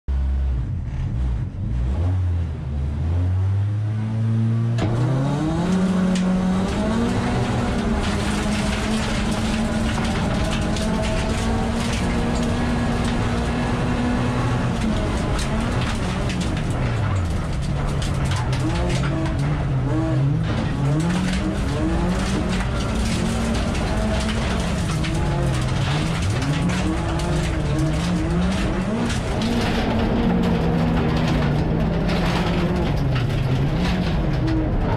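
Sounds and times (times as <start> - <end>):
race car engine revving: 0.1 - 34.9
gravel crackling against car: 4.8 - 34.9.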